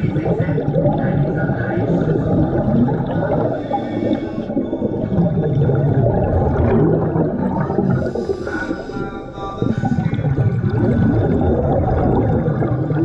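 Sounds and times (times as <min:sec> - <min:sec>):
underwater regulator bubbles: 0:00.0 - 0:13.0.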